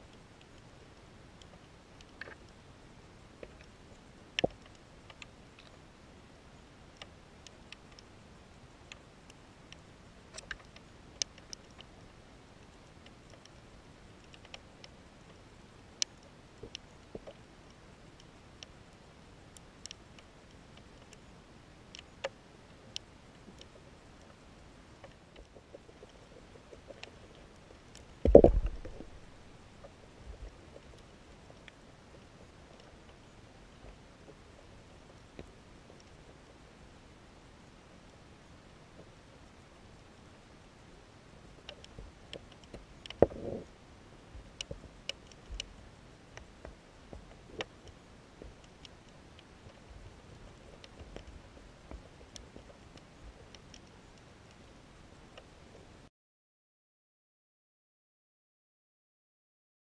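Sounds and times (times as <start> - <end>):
underwater clicks and ticks: 0.0 - 2.6, 3.3 - 5.9, 6.8 - 8.2, 8.8 - 36.7, 41.4 - 43.6, 44.3 - 55.9.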